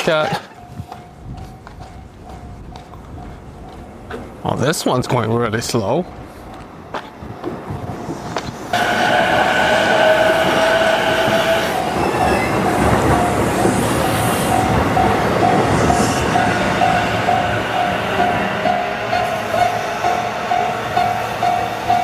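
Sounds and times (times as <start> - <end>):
crossing bell ringing: 0.0 - 4.5, 8.8 - 22.0
train passing rumble: 0.3 - 22.0.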